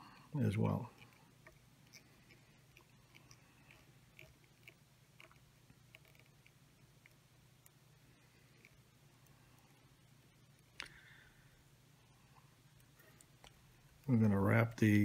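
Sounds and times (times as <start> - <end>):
soft ticks of thread handling: 0.0 - 11.3, 12.0 - 15.0
faint low hum: 0.0 - 15.0.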